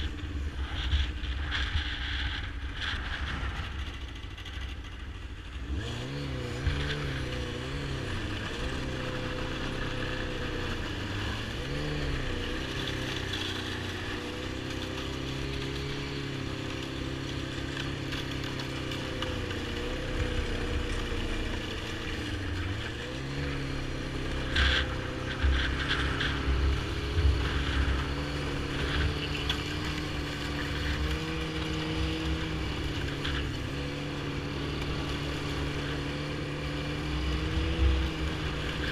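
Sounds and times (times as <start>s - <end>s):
snowmobile engine revving: 5.5s - 38.9s.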